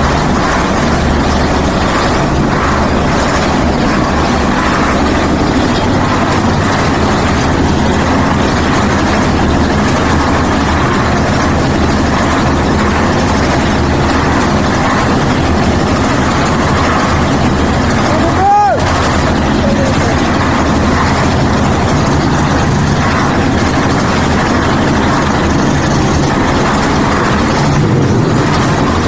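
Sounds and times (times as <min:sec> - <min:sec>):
concrete mixer engine running: 0:00.0 - 0:29.0.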